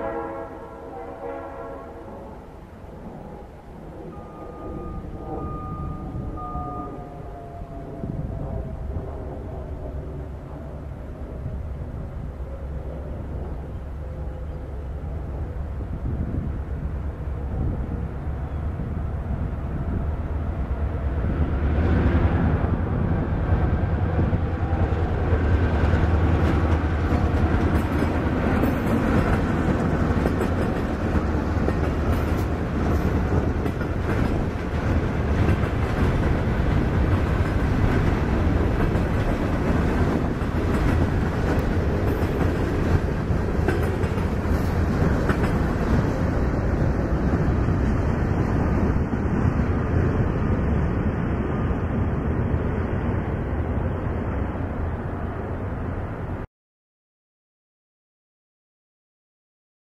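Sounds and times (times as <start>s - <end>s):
diesel locomotive passing: 0.0s - 56.5s.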